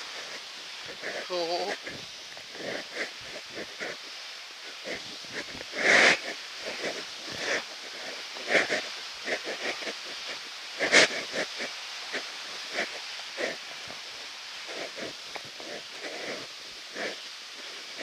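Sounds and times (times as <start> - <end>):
falling water hissing: 0.0 - 18.0.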